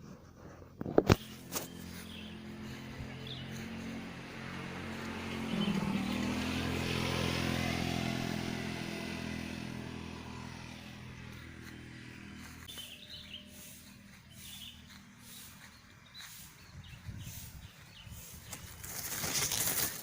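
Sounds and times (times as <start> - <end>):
motor vehicle passing: 0.4 - 20.0.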